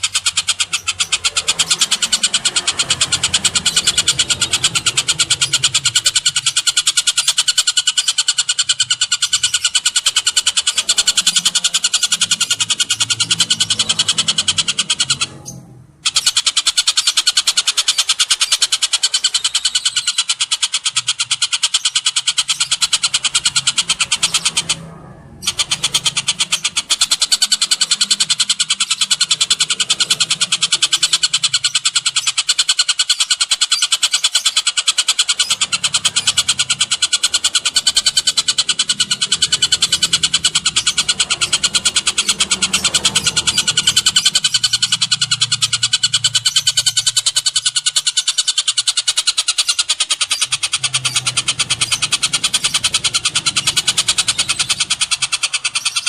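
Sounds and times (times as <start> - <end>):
birdsong chattering trill: 0.0 - 56.0.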